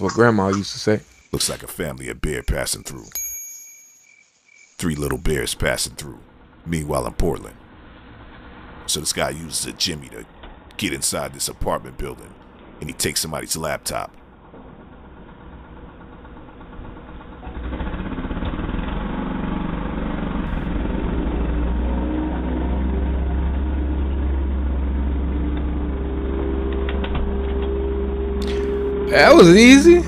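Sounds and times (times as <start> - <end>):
low mechanical rumble: 4.7 - 30.0.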